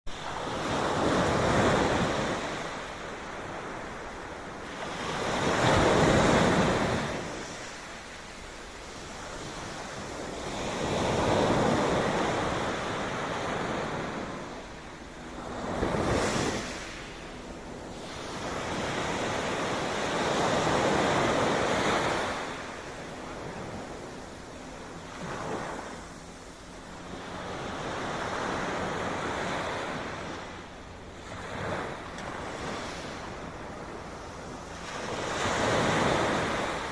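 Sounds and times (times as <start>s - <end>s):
sea waves breaking: 0.1s - 36.9s.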